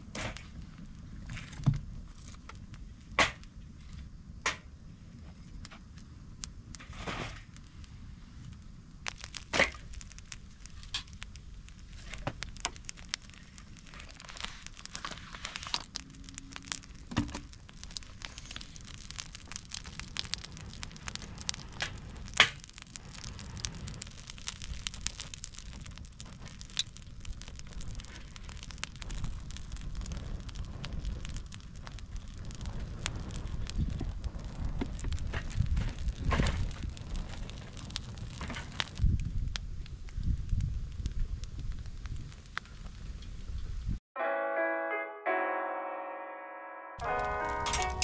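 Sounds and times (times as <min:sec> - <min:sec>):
campfire crackling: 0:00.0 - 0:44.0, 0:47.0 - 0:48.0
sharp fire pops: 0:00.0 - 0:44.0, 0:47.0 - 0:48.0.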